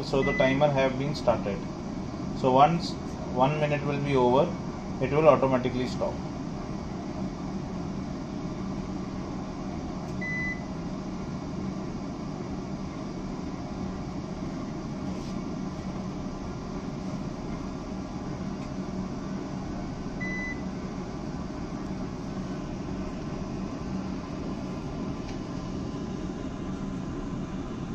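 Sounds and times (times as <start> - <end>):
centrifuge motor hum: 0.0 - 27.9.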